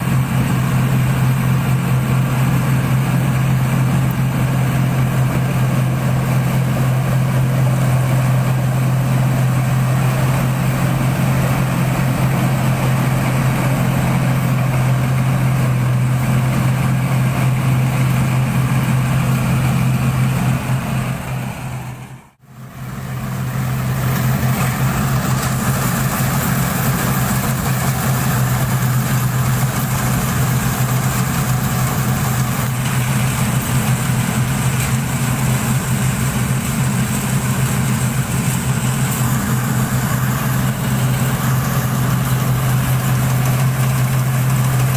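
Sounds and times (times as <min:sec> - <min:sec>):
harvester engine droning: 0:00.0 - 0:44.9.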